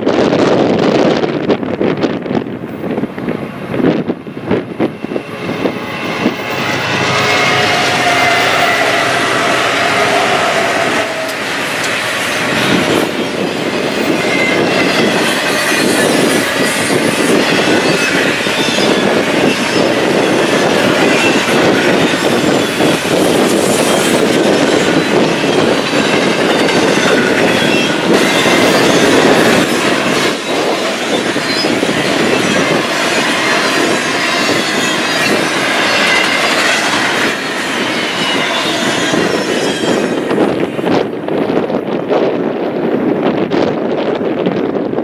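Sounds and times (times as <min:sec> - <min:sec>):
steel wheels on rail: 0:00.0 - 0:45.0
high wheel squeal: 0:04.8 - 0:41.0.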